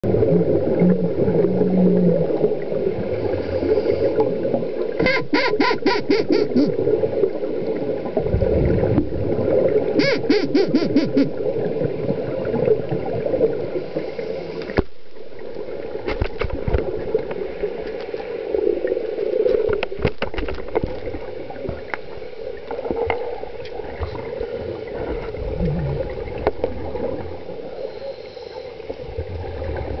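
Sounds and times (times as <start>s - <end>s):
underwater bubbles and gurgling: 0.0s - 30.0s.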